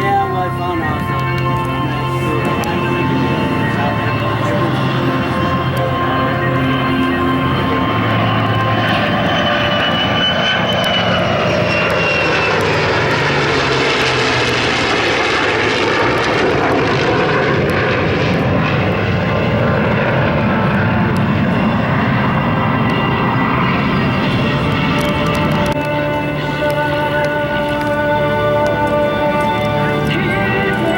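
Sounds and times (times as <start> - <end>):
aircraft engine passing low: 0.0 - 30.9.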